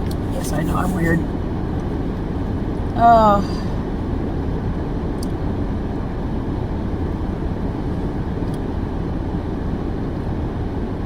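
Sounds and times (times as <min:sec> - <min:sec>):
engine idling hum: 0:00.0 - 0:11.0
heater fan blowing: 0:00.0 - 0:11.0.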